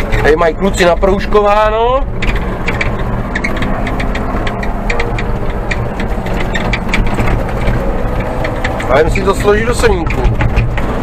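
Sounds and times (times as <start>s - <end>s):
diesel engine running: 0.0s - 11.0s
rattles and clicks: 0.0s - 11.0s.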